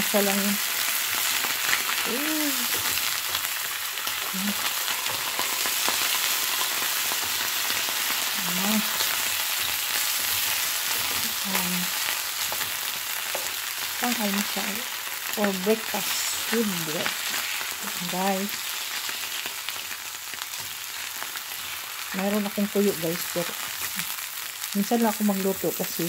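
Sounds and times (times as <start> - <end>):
meat sizzling in oil: 0.0 - 26.0.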